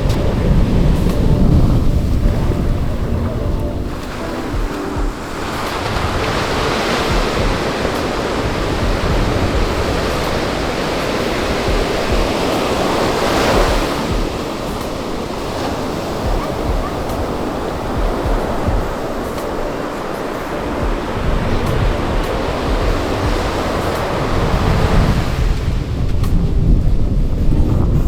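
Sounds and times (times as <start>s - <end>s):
ocean surf washing onto beach: 0.0s - 28.0s
wind buffeting microphone: 0.0s - 28.0s.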